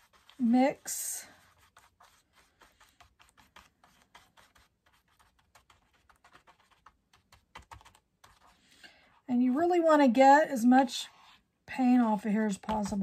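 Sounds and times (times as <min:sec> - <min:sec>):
stencil brush dabbing paint: 0:00.0 - 0:13.0.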